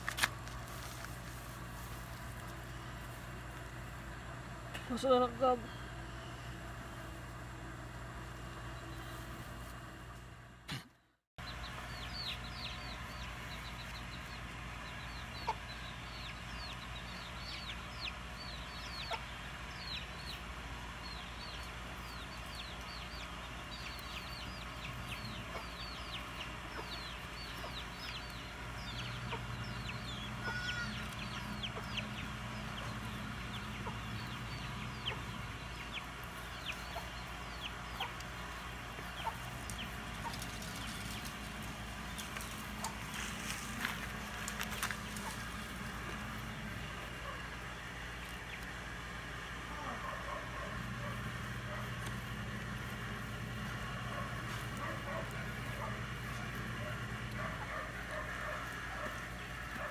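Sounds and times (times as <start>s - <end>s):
steady low hum: 0.0s - 59.9s
birds chirping: 10.7s - 59.9s.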